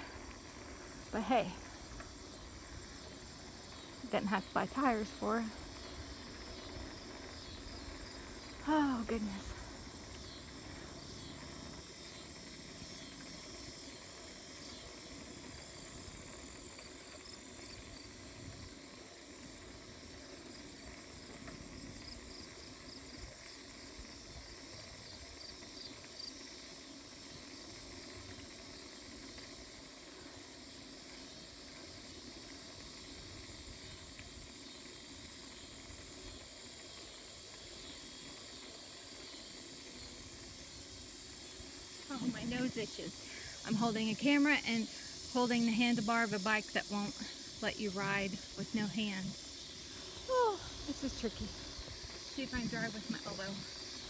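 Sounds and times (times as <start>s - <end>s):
bicycle riding rumble: 0.0s - 54.0s
insects trilling: 0.0s - 54.0s.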